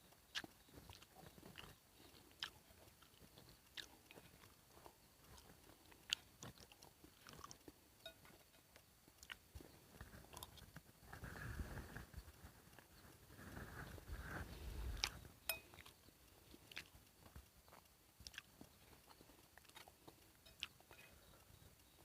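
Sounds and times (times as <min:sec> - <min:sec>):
person chewing: 0:00.0 - 0:10.8, 0:13.8 - 0:22.0
rustle: 0:00.0 - 0:22.0.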